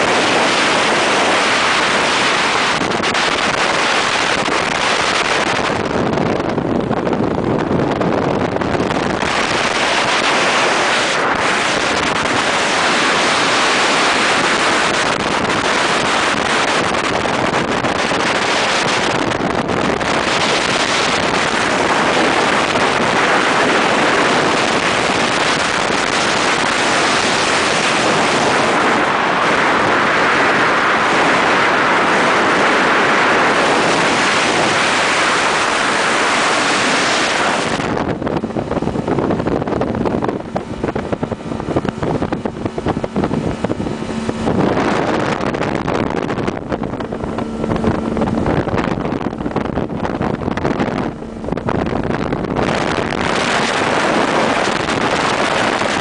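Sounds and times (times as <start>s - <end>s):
motorboat water spray: 0.0s - 56.0s
wind on microphone: 0.0s - 56.0s.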